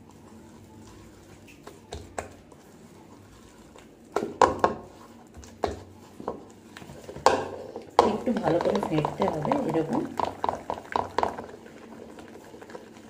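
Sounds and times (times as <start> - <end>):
hand mixing batter in a bowl: 0.0 - 13.0.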